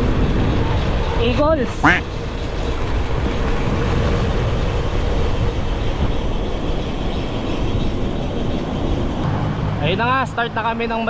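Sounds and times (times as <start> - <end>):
wind and road rush: 0.0 - 11.0.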